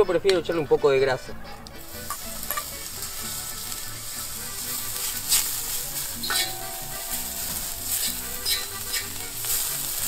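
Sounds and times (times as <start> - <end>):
fat sizzling on hot pan: 1.8 - 10.0.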